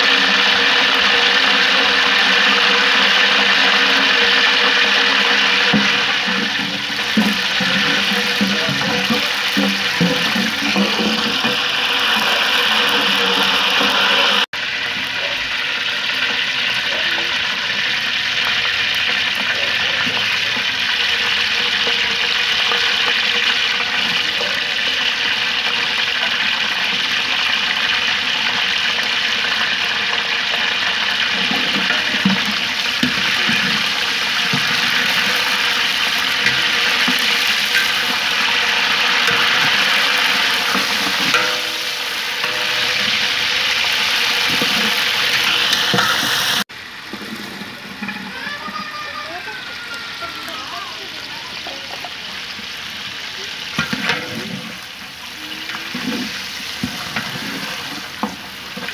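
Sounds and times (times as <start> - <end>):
food frying in hot oil: 0.0 - 58.9.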